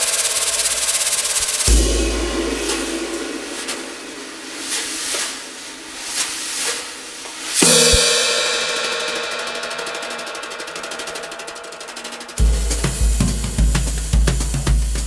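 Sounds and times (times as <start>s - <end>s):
drum and cymbal strokes: 0.0s - 15.0s
loud cymbal crash: 0.2s - 15.0s.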